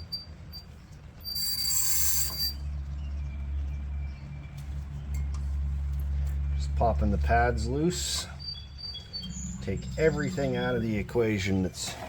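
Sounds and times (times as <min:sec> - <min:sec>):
metal scraping with ringing squeal: 0:00.0 - 0:05.3, 0:06.7 - 0:11.4
steady low hum: 0:02.0 - 0:12.0.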